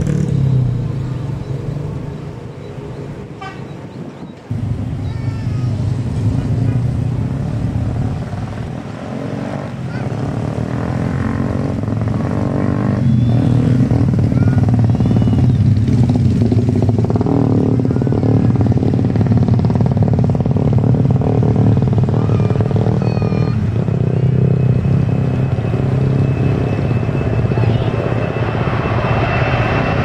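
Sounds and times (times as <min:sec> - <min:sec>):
jet airliner engine rumble: 0:00.0 - 0:30.0.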